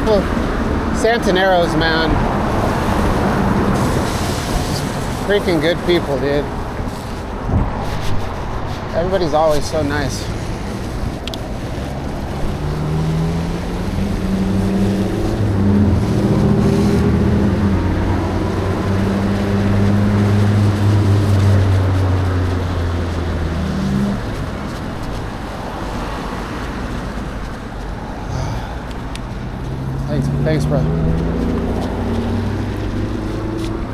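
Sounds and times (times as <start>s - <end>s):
vehicle engine humming: 0.0s - 33.9s
wet road noise: 0.0s - 33.9s.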